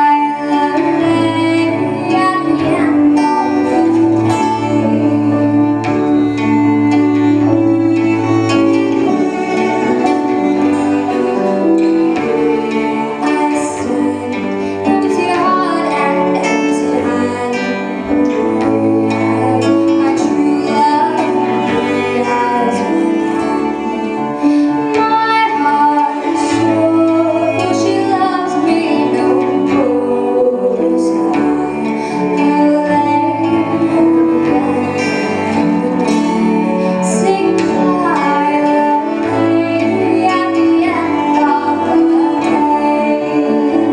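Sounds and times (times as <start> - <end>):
string accompaniment: 0.0 - 43.9
woman singing folk song: 0.0 - 43.9.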